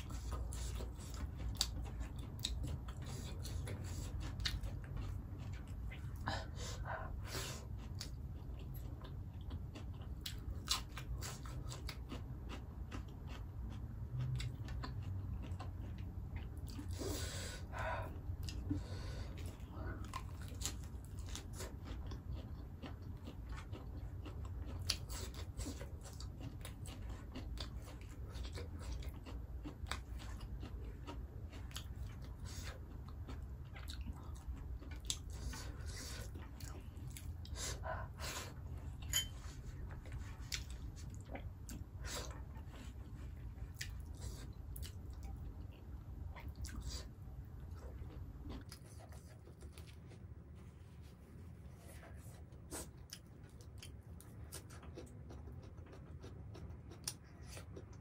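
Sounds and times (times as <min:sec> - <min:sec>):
close chewing: 0:00.0 - 0:58.0
steady low hum: 0:00.0 - 0:58.0.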